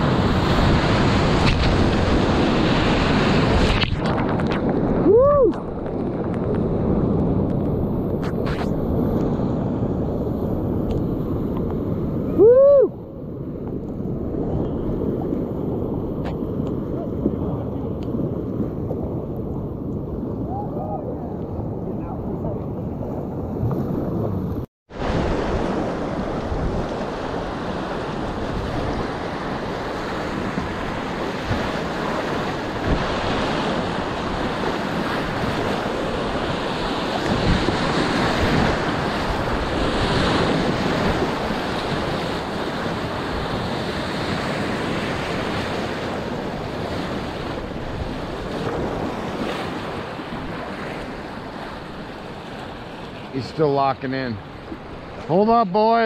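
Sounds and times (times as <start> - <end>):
wind noise on microphone: 0.0 - 53.1.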